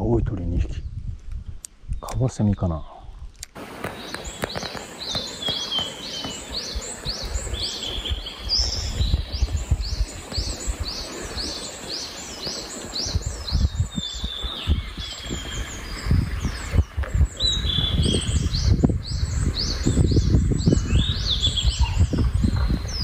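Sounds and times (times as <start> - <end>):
cicadas chorus: 3.6 - 23.0.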